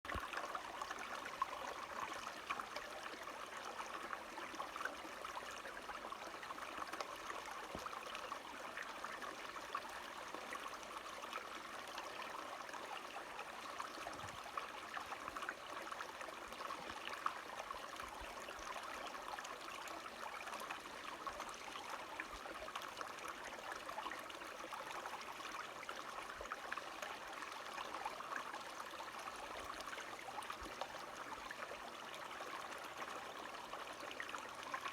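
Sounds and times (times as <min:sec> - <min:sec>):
stream trickling: 0:00.1 - 0:34.9.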